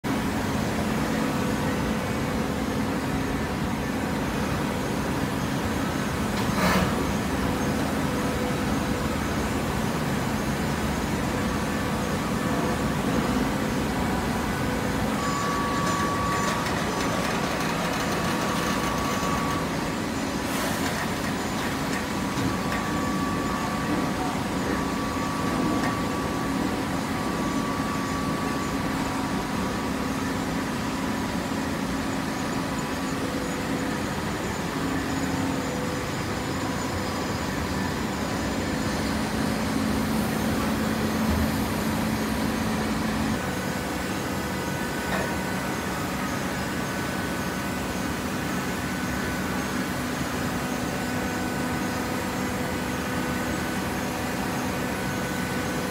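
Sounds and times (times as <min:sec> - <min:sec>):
hydraulic baler humming: 0:00.1 - 0:55.9.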